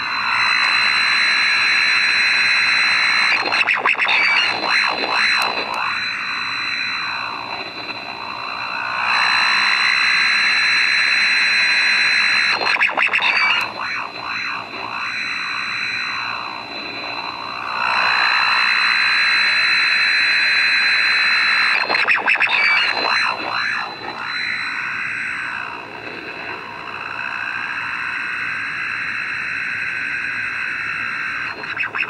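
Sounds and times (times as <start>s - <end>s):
buzzing radio interference: 0.0s - 32.0s
steady high whistle: 0.0s - 32.0s.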